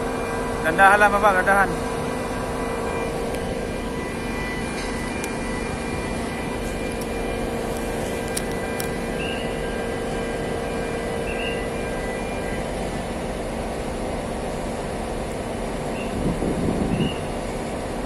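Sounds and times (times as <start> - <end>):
crane diesel engine droning: 0.0 - 18.0.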